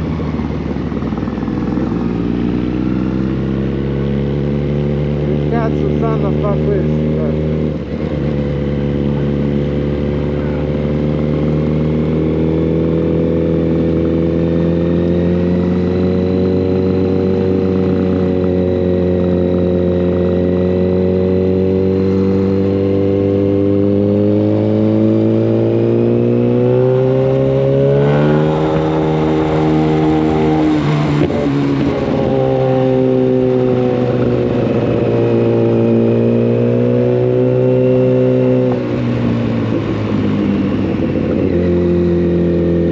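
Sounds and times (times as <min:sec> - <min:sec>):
loud motorcycle engine: 0:00.0 - 0:42.9.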